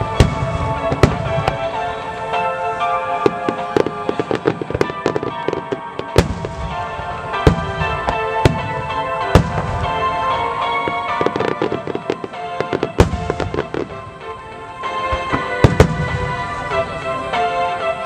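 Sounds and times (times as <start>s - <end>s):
firework crackle: 0.0s - 18.0s
music: 0.0s - 18.0s.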